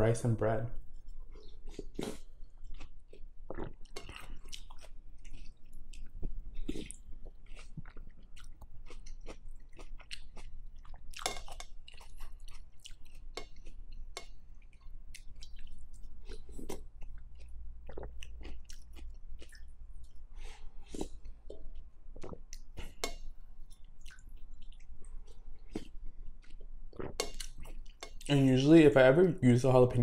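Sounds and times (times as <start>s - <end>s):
chewing with mouth clicks: 1.2s - 28.3s.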